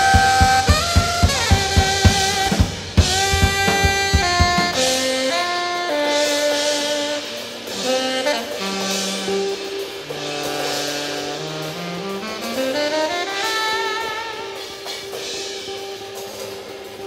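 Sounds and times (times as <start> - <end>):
drum kit with cymbals: 0.0 - 17.0
electric guitar: 0.0 - 17.0
tenor saxophone: 0.0 - 17.0.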